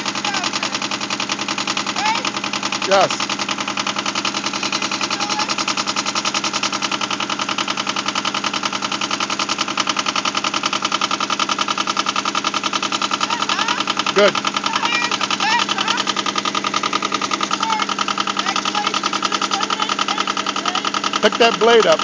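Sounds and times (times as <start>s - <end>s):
tractor diesel engine chugging: 0.0s - 22.0s.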